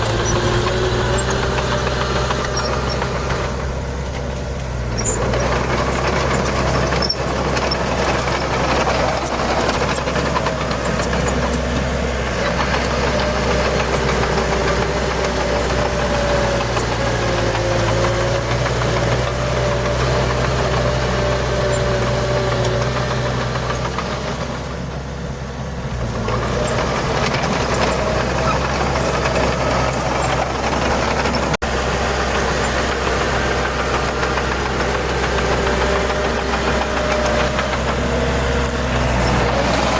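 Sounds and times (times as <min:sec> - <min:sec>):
bulldozer diesel engine knocking: 0:00.0 - 0:39.9.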